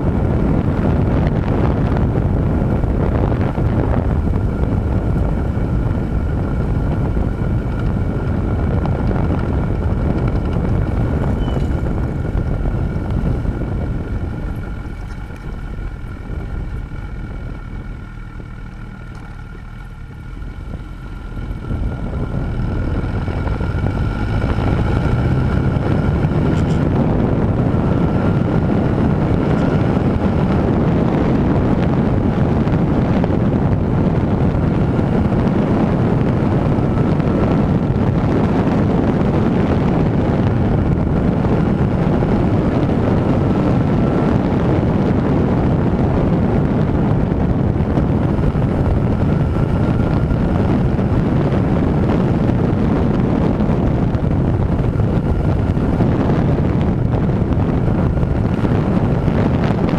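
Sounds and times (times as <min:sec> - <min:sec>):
motorcycle engine: 0:00.0 - 0:59.9
wind rushing over microphone: 0:00.0 - 0:59.9.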